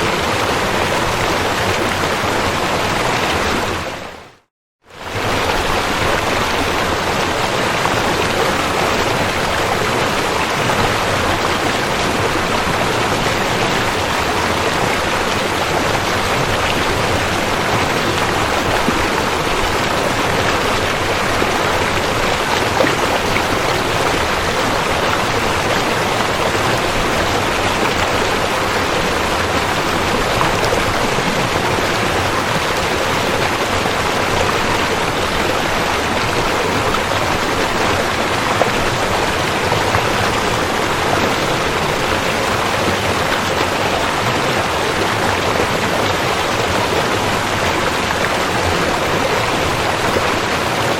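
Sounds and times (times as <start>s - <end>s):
river water rushing over rocks: 0.0s - 4.1s, 4.9s - 50.9s.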